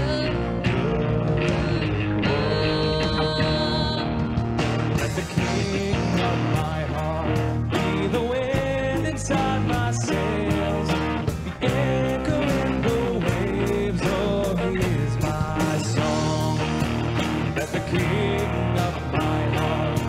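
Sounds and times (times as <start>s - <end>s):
electric guitar: 0.0s - 20.0s
worship band playing: 0.0s - 20.0s.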